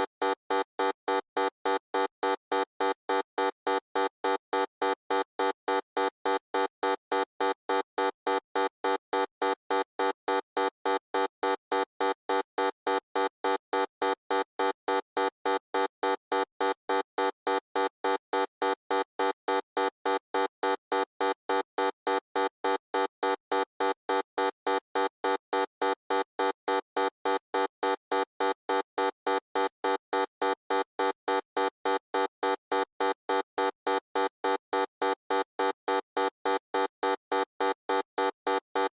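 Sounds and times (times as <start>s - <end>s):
pulsing electronic buzzer: 0.0s - 38.9s.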